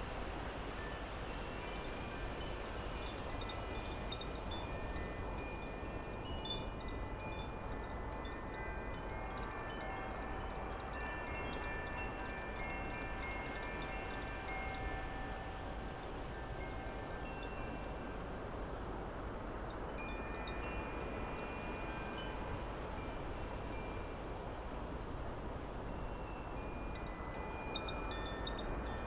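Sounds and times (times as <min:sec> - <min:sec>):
wind chimes ringing: 0:00.8 - 0:18.8, 0:19.7 - 0:24.3, 0:25.9 - 0:29.0.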